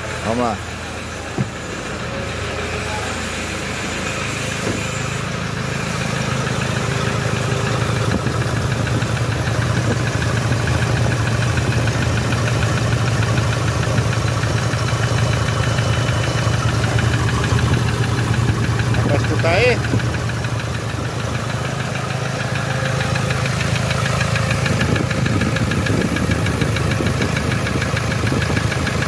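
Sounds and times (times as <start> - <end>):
diesel engine running with knock: 0.0 - 29.0.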